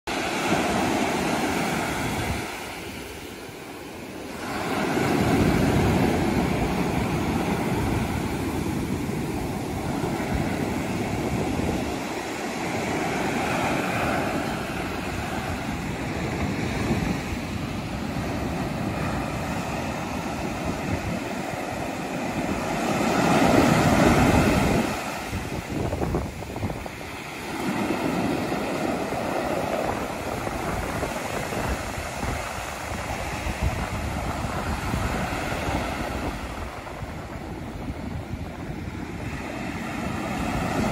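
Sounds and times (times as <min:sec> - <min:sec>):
surf washing up a beach: 0:00.1 - 0:40.9.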